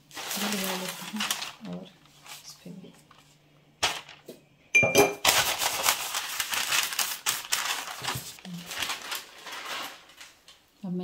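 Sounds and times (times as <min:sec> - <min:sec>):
paper crinkling and rustling: 0:00.0 - 0:04.3, 0:05.2 - 0:10.7.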